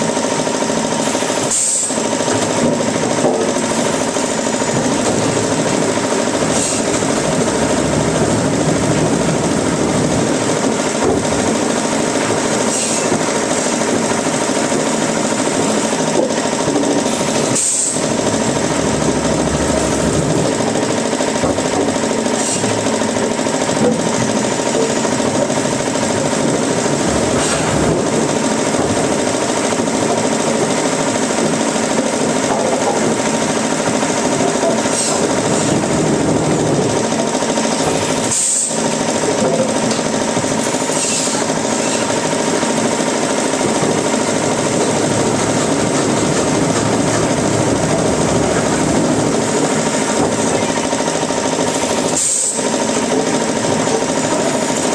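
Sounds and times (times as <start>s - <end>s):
machinery hum: 0.0s - 54.9s
machinery rattling: 0.0s - 54.9s.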